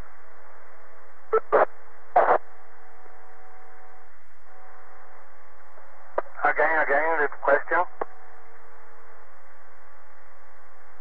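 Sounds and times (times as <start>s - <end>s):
faint hum of steady tones: 0.0s - 11.0s
radio static hiss: 0.0s - 11.0s.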